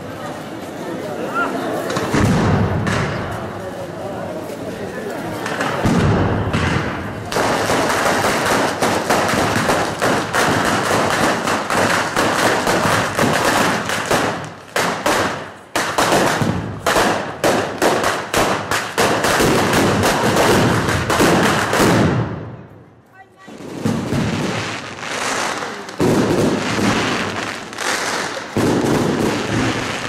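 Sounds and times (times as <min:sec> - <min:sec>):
firecrackers exploding: 0:01.8 - 0:04.0, 0:05.0 - 0:22.6, 0:23.4 - 0:30.0.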